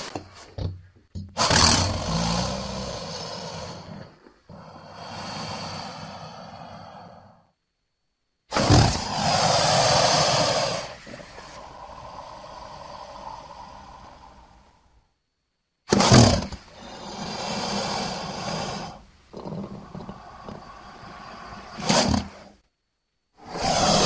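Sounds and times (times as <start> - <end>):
crocodilian calls: 1.4 - 7.3, 8.5 - 15.0, 15.9 - 22.6, 23.4 - 24.0.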